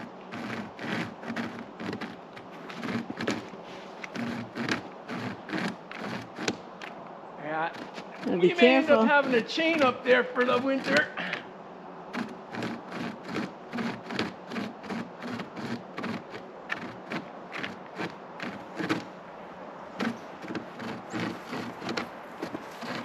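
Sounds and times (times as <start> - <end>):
hand chain saw rasping wood: 0.0 - 7.0, 7.6 - 11.4, 12.1 - 19.1, 20.0 - 23.0.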